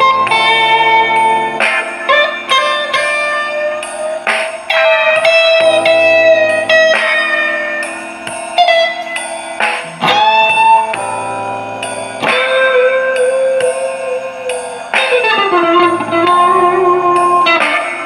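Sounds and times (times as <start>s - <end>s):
slow guitar melody: 0.0s - 18.0s.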